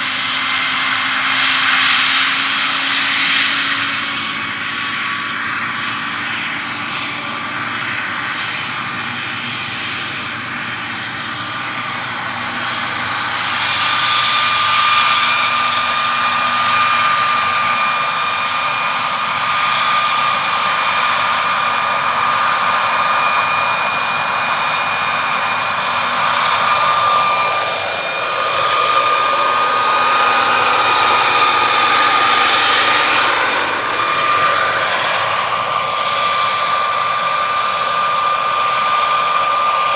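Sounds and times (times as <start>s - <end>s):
gas turbine high whine: 0.0s - 39.9s
rotor rushing: 1.1s - 39.9s.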